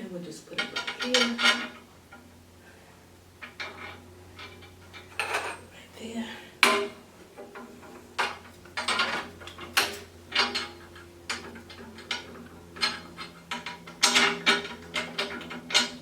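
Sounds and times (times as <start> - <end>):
parts clicking and knocking: 0.5 - 2.4, 3.4 - 5.8, 6.5 - 16.0.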